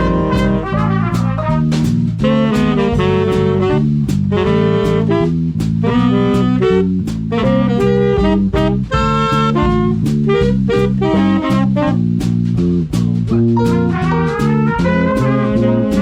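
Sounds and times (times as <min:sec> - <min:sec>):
swing band playing: 0:00.0 - 0:16.0.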